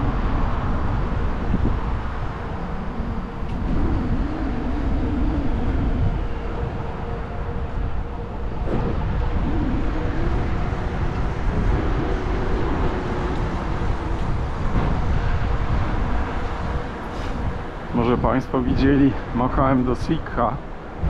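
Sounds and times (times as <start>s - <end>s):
street traffic: 0.0s - 21.0s
vehicle hum: 0.0s - 21.0s
wind rumbling on microphone: 0.0s - 21.0s.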